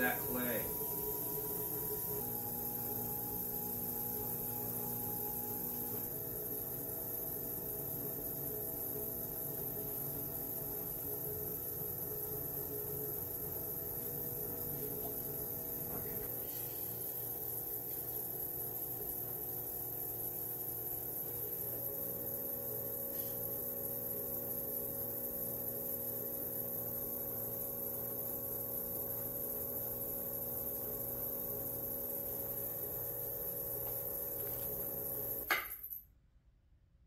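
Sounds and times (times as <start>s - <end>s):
potter's wheel motor humming: 0.0s - 35.7s.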